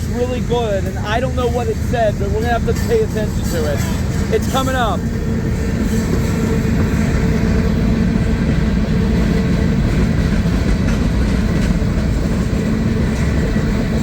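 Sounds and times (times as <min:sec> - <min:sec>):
steel wheels rumbling on rail: 0:00.0 - 0:14.0.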